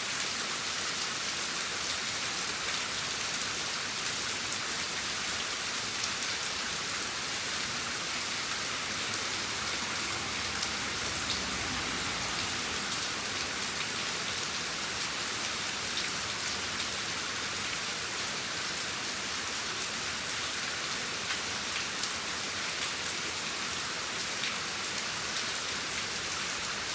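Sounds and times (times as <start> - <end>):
steady rain hiss: 0.0 - 26.9.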